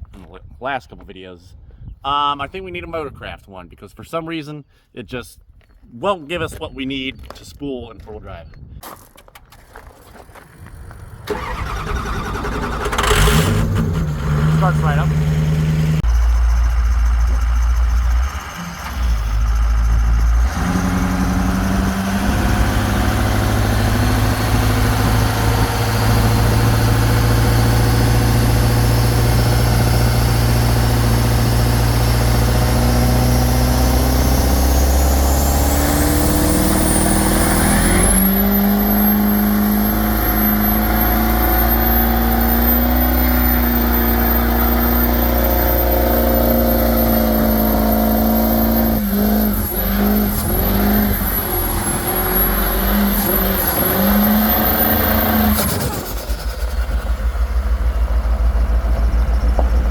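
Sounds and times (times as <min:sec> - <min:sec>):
tires spinning on pavement: 0:09.7 - 0:59.9
diesel truck engine revving: 0:10.9 - 0:59.9.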